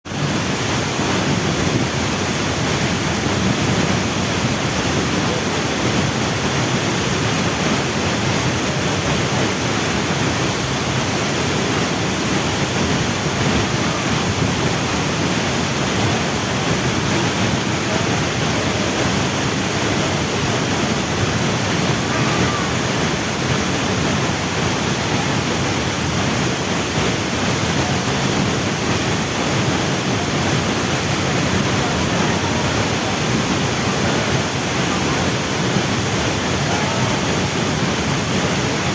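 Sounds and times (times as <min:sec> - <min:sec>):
waterfall roaring: 0:00.1 - 0:38.9.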